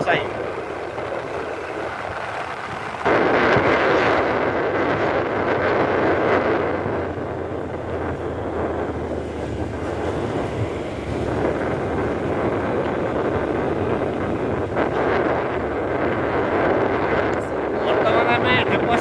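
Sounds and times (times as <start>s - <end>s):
wind rushing over microphone: 0.0s - 19.0s
motor scooter engine humming: 0.2s - 17.8s.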